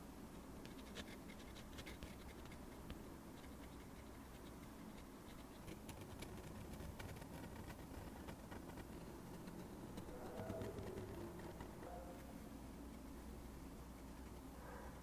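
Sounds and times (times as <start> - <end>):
low steady hum: 0.0 - 15.0
drawing tool scratching: 0.7 - 2.8, 3.4 - 13.1, 13.9 - 14.5.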